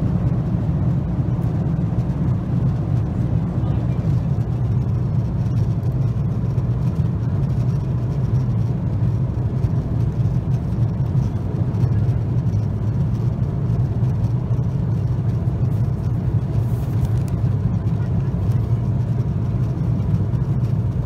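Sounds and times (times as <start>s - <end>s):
airliner cabin drone with hiss: 0.0s - 21.0s.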